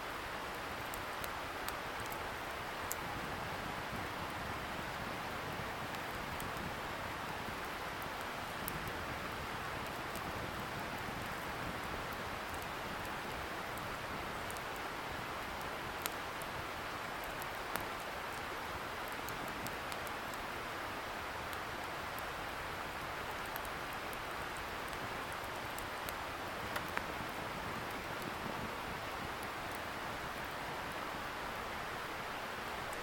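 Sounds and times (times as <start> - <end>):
bonfire crackling and popping: 0.1 - 31.3.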